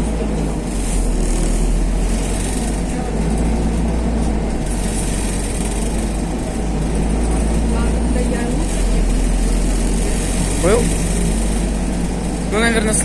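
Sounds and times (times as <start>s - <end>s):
bus diesel and road rumble: 0.0s - 13.0s.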